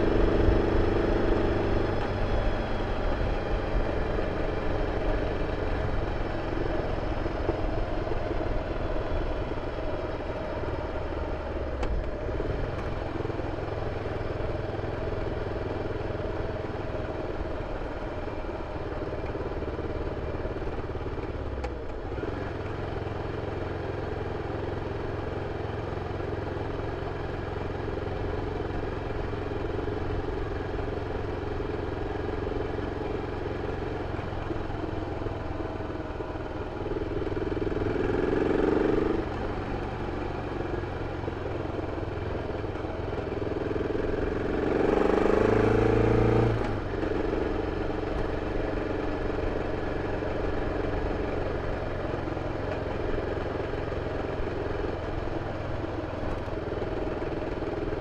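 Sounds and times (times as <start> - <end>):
motorcycle engine running and revving: 0.0 - 58.0.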